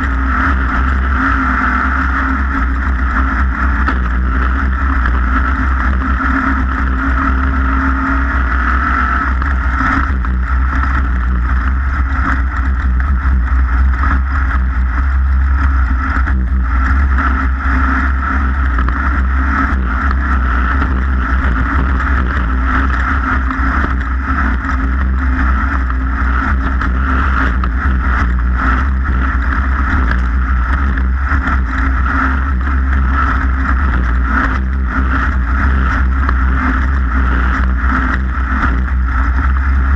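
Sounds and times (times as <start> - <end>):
racing engine rumbling: 0.0 - 39.9.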